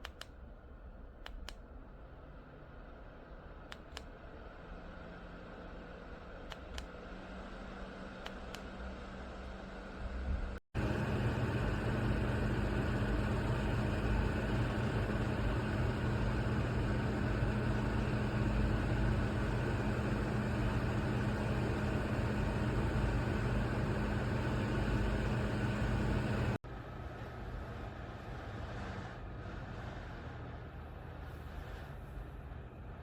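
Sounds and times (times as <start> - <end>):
window fan running: 1.4 - 32.9.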